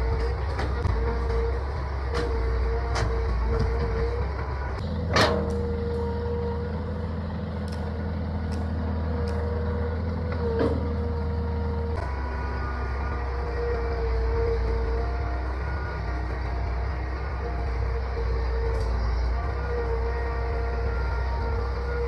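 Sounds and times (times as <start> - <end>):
excavator diesel engine whining: 0.0 - 22.0.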